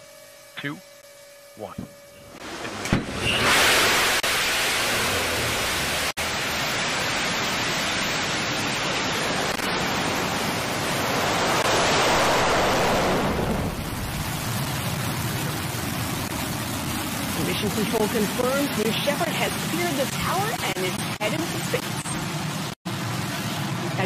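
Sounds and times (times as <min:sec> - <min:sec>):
rocket engine roaring: 0:02.3 - 0:24.0.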